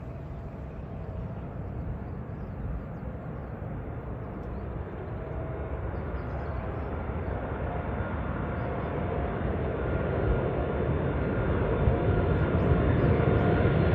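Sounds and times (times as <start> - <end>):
faint jet whine: 0.0 - 13.9
jet engines rumbling: 0.0 - 13.9.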